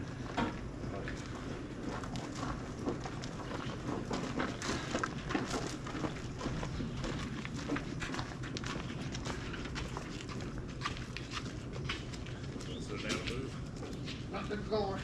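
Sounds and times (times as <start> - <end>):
footsteps: 0.0 - 15.0.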